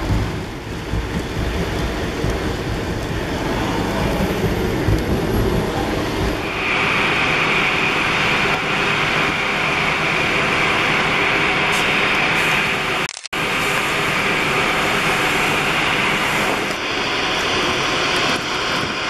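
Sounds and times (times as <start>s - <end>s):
jet airliner engines whining: 0.0s - 19.0s
rain: 0.0s - 19.0s
vehicle rumble: 0.0s - 19.0s.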